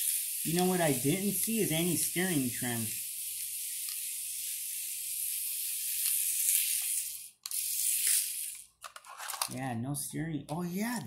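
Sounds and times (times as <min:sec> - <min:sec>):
toy car motor whirring: 0:00.0 - 0:09.5, 0:10.6 - 0:11.0.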